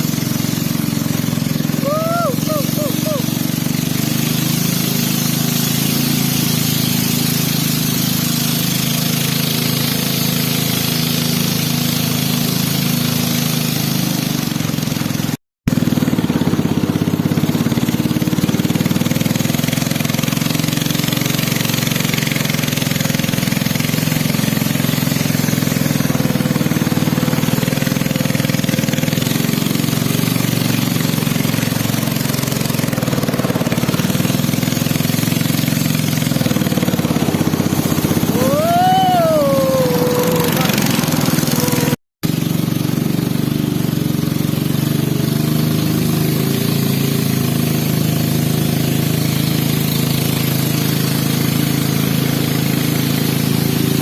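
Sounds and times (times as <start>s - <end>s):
small engine rattly drone: 0.0s - 54.0s.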